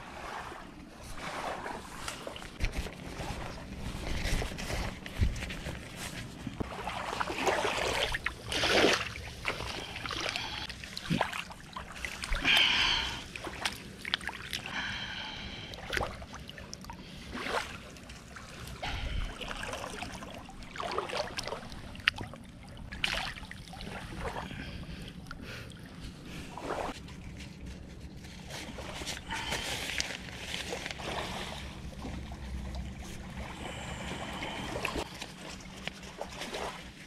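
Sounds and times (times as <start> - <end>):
small waves washing in: 0.0 - 24.7, 28.3 - 37.0.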